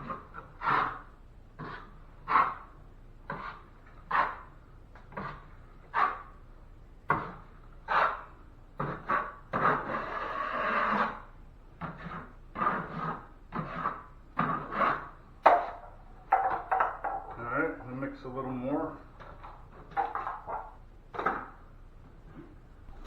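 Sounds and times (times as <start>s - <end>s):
drywall knife scraping compound: 0.0s - 6.4s, 7.1s - 21.6s.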